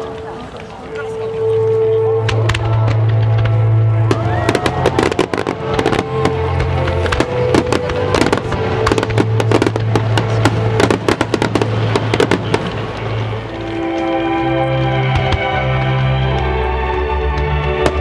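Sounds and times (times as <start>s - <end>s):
fireworks bangs and crackling: 0.0s - 18.0s
music soundtrack: 0.0s - 18.0s.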